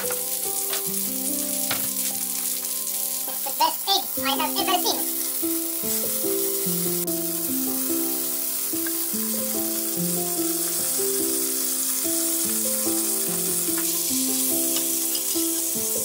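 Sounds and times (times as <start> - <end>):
egg sizzling in butter: 0.0 - 16.0
slow background music: 0.0 - 16.0.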